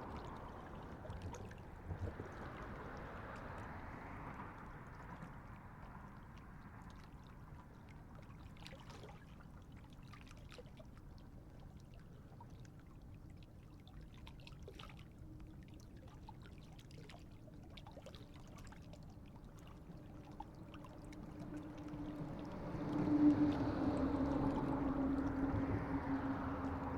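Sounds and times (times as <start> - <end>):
low motor boat hum: 0.0 - 26.9
water lapping and trickling: 0.0 - 26.9.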